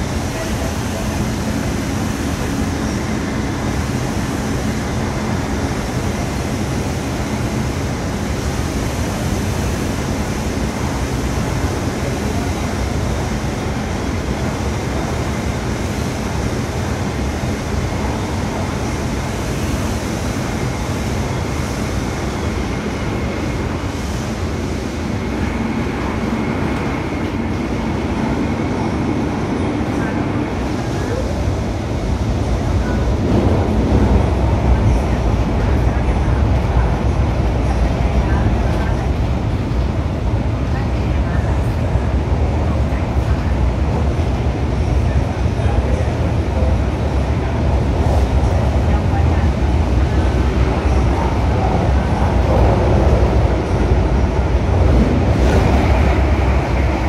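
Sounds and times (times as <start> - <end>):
train rumble and rail roar: 0.0 - 57.0.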